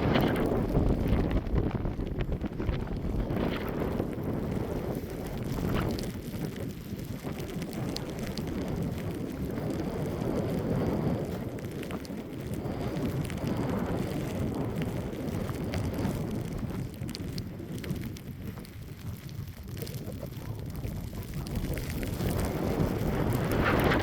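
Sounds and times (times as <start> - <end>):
faint ticks: 0.0 - 24.0
strong wind gusting on microphone: 0.0 - 24.0.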